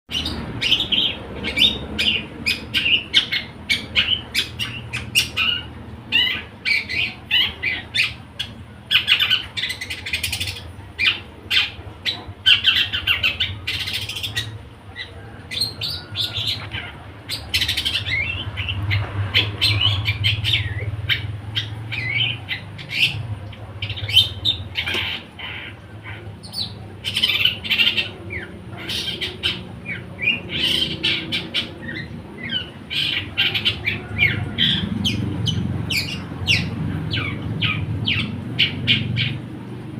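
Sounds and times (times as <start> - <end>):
bird chirping and squawking: 0.1 - 39.6.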